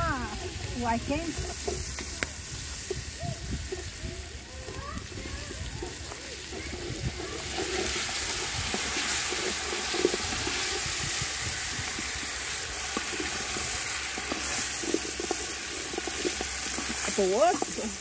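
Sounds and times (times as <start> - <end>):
pasta sizzling in a pan: 0.0 - 18.0
stirring clicks and scrapes: 0.0 - 18.0.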